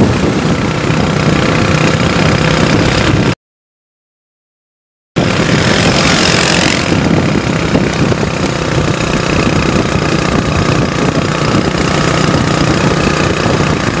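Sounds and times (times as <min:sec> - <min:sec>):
motorcycle engine running: 0:00.0 - 0:03.4, 0:05.2 - 0:14.0.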